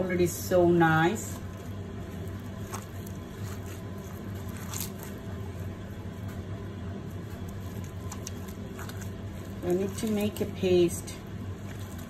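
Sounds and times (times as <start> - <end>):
steady low hum: 0.0 - 12.0
hand squishing paste in bowl: 0.8 - 12.0.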